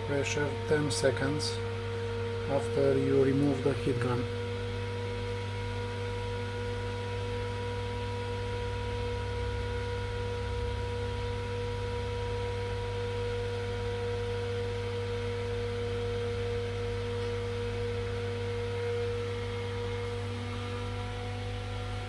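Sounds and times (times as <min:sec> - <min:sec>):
electrical hum: 0:00.0 - 0:22.0
equipment fans whining: 0:00.0 - 0:22.0.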